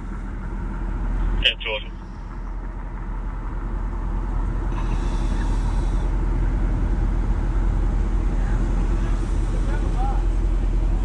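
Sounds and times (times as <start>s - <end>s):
car idling rumble: 0.0s - 11.0s.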